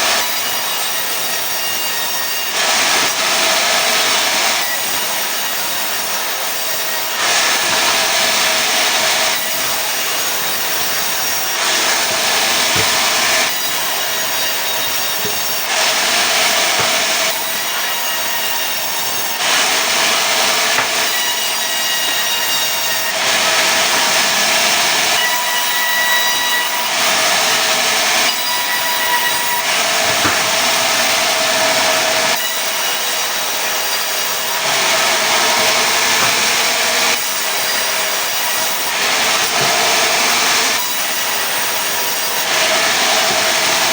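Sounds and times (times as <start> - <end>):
saw machine whine: 0.0 - 43.9
saw cutting wood hiss: 0.2 - 43.9.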